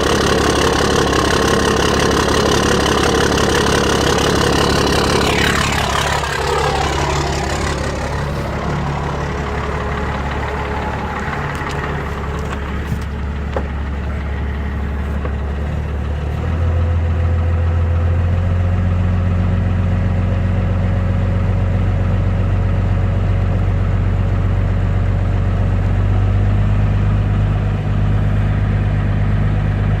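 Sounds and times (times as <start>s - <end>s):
diesel engine idling: 0.0s - 30.0s
engine whine: 0.0s - 30.0s.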